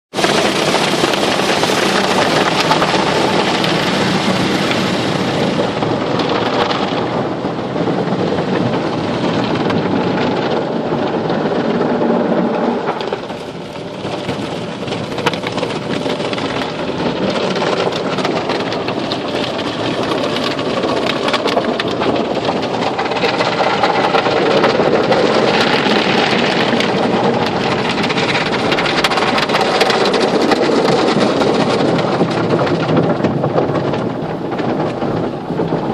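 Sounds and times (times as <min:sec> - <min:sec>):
water spraying on a car: 0:00.2 - 0:35.9.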